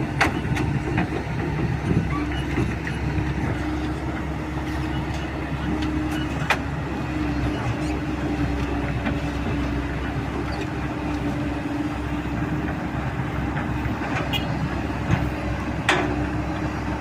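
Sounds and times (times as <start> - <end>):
excavator diesel engines running: 0.0 - 17.0.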